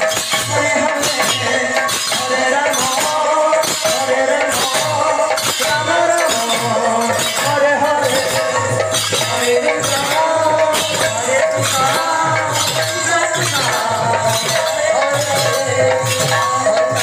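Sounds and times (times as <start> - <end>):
drum strokes: 0.0 - 17.0
jingling metal percussion: 0.0 - 17.0.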